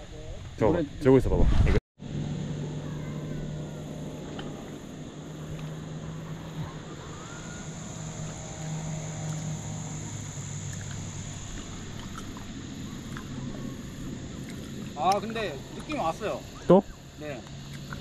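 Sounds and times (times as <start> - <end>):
distant engine drone: 2.0 - 18.0.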